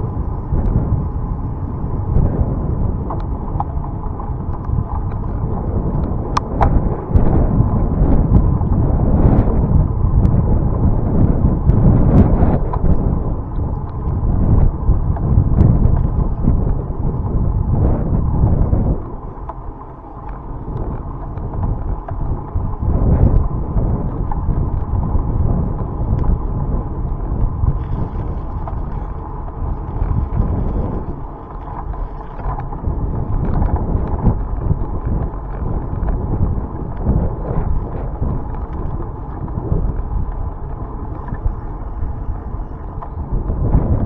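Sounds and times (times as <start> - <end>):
bicycle clicks and rattles: 0.0 - 44.0
wind buffeting microphone: 0.0 - 44.0.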